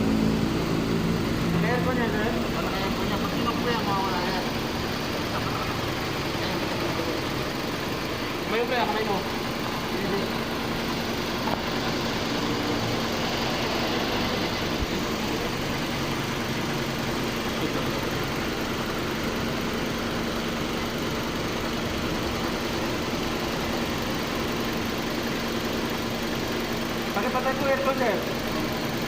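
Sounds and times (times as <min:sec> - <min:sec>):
air conditioning hum: 0:00.0 - 0:29.0
car engine idling: 0:00.0 - 0:29.0.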